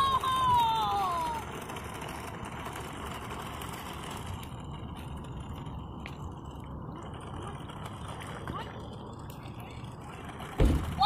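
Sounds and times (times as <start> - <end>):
toy car motors whirring: 0.0 - 11.0.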